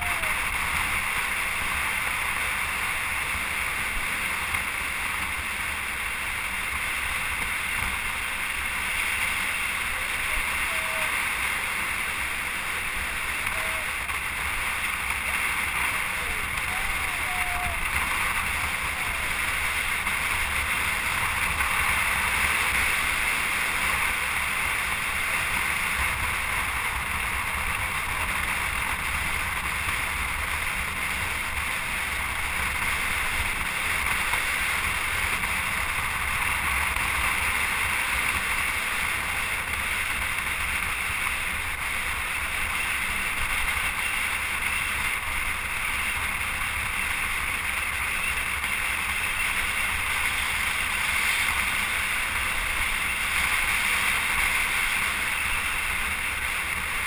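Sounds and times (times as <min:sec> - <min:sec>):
rushing wind: 0:00.0 - 0:57.0.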